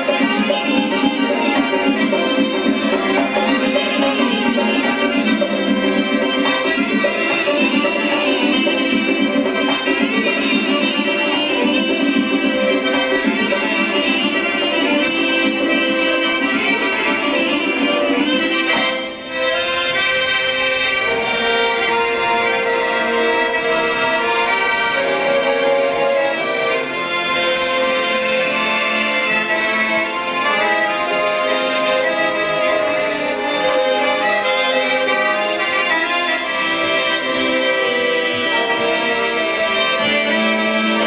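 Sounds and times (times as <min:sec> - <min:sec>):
folk dance music on accordion: 0:00.0 - 0:41.0.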